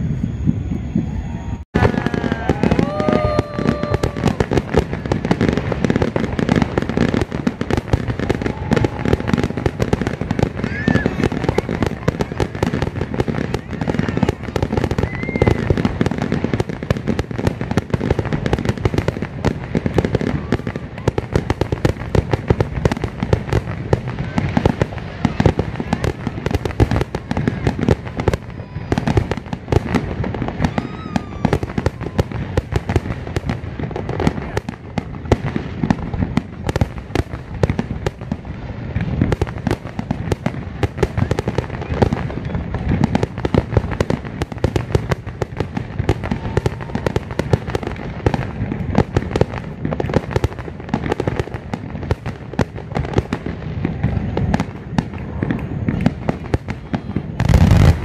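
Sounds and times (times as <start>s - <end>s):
fireworks deep bangs: 0.0s - 58.0s.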